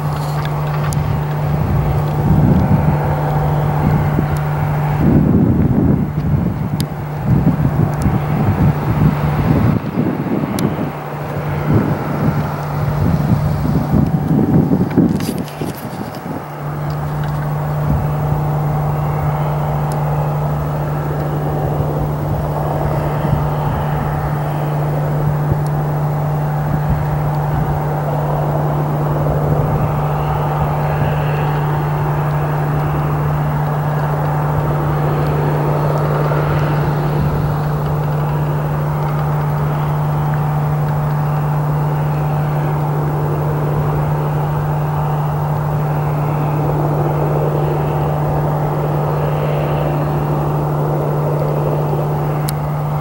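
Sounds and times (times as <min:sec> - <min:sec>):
vehicle engine idling: 0:00.0 - 0:53.0
wind buffeting microphone: 0:00.0 - 0:53.0.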